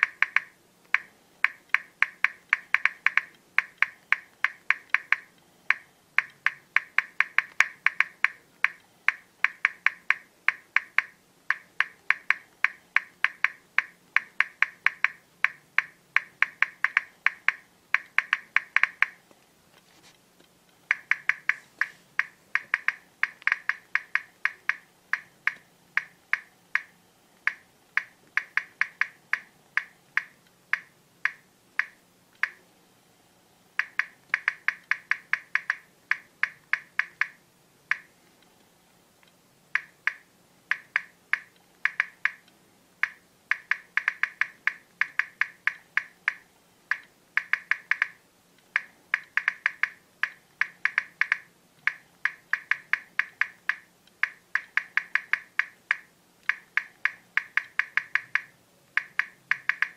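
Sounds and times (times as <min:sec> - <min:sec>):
phone keyboard clicks: 0:00.0 - 0:19.2, 0:20.9 - 0:32.6, 0:33.8 - 0:38.1, 0:39.8 - 0:59.9.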